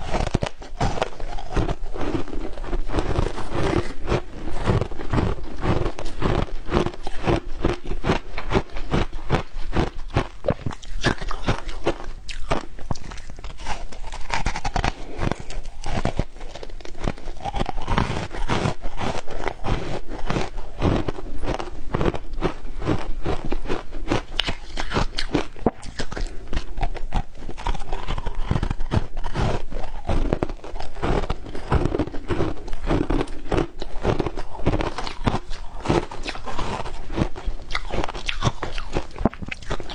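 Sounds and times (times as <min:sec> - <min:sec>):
shaved ice crunching as chewed: 0:00.0 - 0:39.9.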